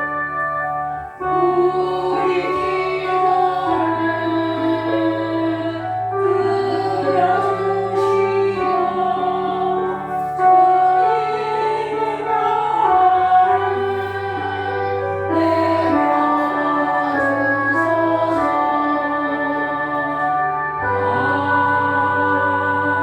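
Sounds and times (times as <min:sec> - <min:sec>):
slow church music with singing: 0:00.0 - 0:23.0.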